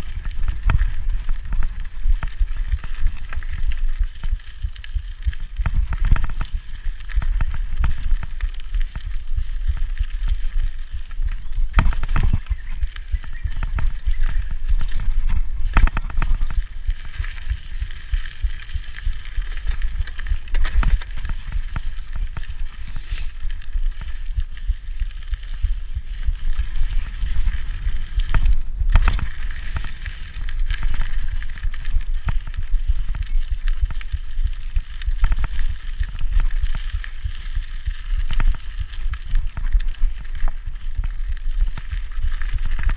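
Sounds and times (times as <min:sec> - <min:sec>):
bike rattling over bumps: 0:00.0 - 0:42.9
tyres crunching over dirt and stones: 0:00.0 - 0:42.9
wind rumble on microphone: 0:00.0 - 0:42.9.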